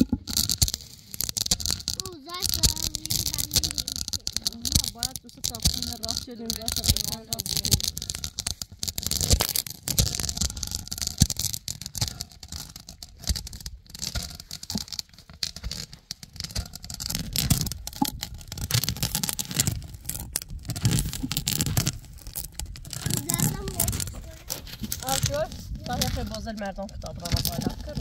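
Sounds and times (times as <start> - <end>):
nuts cracking: 0.0 - 28.0
stone scraping on stone: 0.0 - 28.0.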